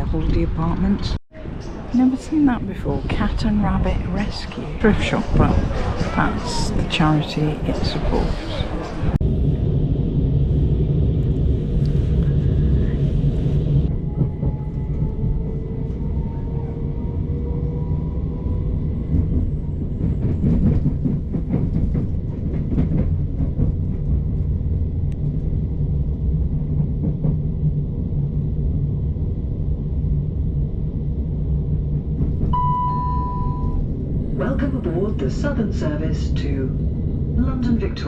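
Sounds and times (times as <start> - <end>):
train rumble from inside carriage: 0.0 - 38.0.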